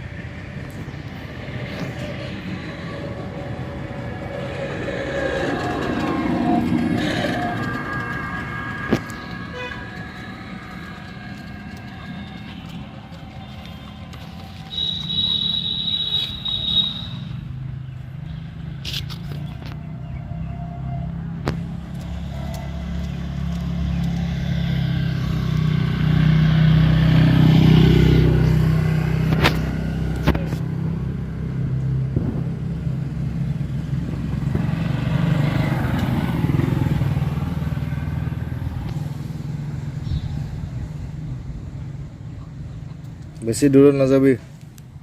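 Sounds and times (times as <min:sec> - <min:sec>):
vehicles passing on road: 0:00.0 - 0:45.0.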